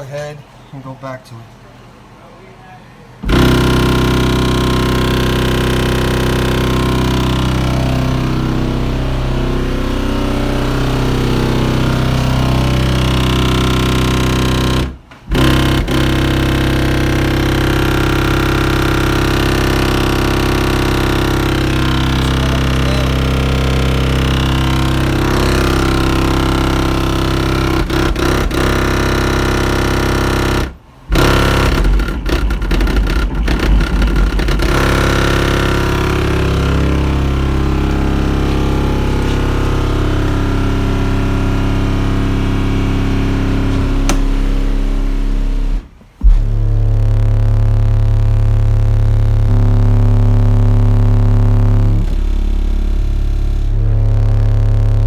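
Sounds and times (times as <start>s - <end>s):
subwoofer bass drone: 3.2s - 55.0s.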